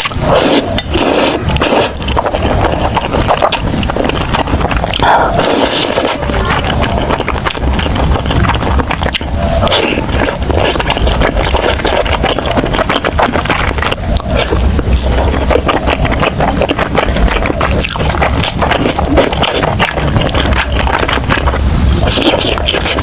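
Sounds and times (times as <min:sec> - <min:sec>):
loud chewing and mouth sounds: 0:00.0 - 0:23.0
low rumble: 0:00.0 - 0:23.0.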